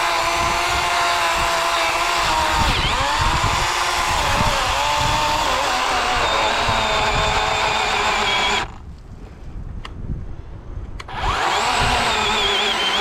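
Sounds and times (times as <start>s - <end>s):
electric chainsaw cutting wood: 0.0s - 8.8s, 11.0s - 13.0s.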